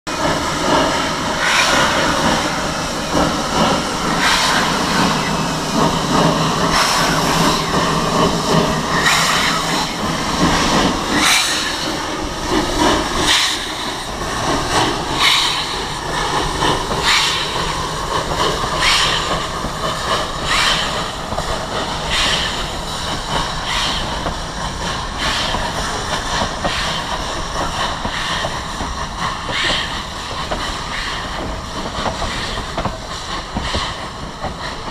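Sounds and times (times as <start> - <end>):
steam hissing: 0.1 - 34.9
steam locomotive chuffing: 0.1 - 34.9.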